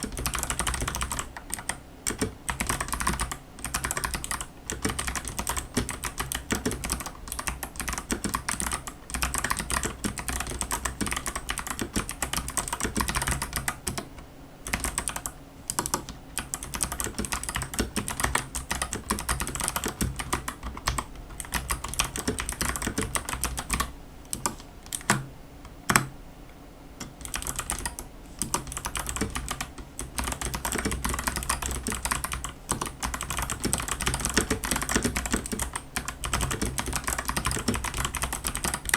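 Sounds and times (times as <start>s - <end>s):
fast typing on clicky keyboard: 0.0s - 25.2s, 27.0s - 38.9s.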